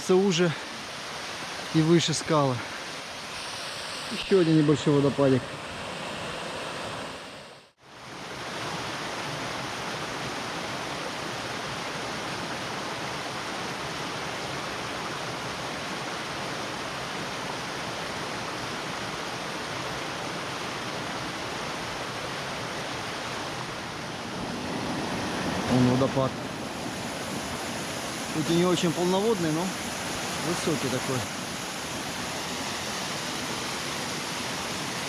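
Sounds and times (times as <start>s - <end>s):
water rushing from small waterfall: 0.0s - 35.0s.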